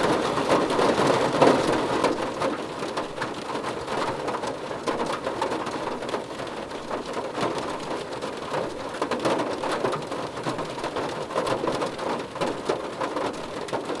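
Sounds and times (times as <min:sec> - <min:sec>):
rain on a car roof: 0:00.0 - 0:14.0.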